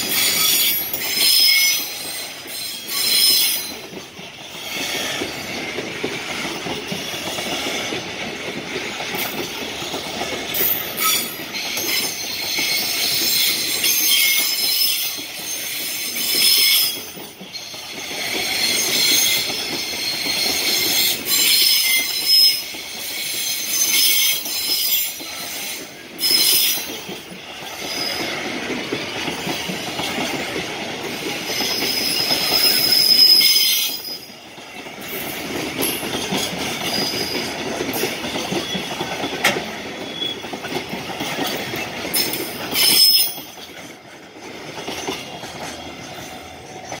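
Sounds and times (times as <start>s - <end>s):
train wheels rumbling and clattering: 0.0s - 47.0s.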